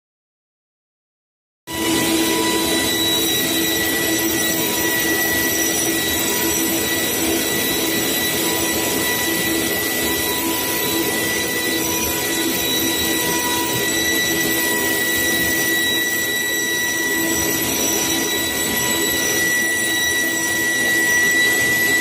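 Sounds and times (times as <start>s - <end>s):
router spindle whining: 1.7s - 22.0s.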